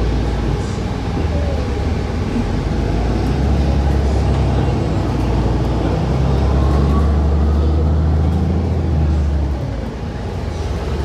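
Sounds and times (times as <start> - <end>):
bus cabin low drone: 0.0 - 11.0.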